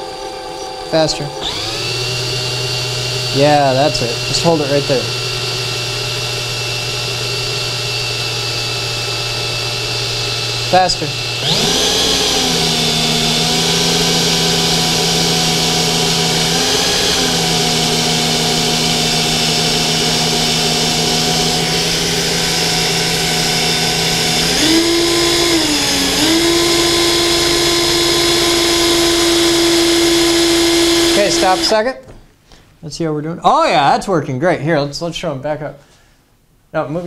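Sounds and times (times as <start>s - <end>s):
cordless drill motor whining: 0.0s - 31.8s.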